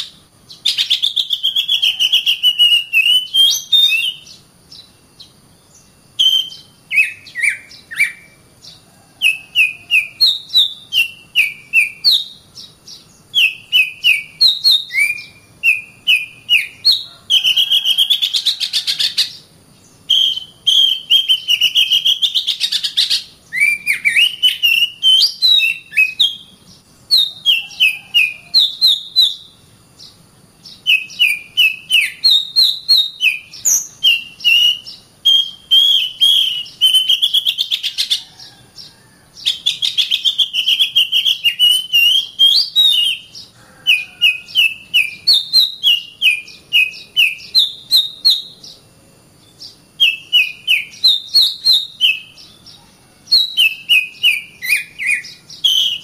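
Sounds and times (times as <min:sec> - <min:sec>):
bird singing whistles and trills: 0:00.0 - 0:48.8, 0:49.4 - 0:56.0.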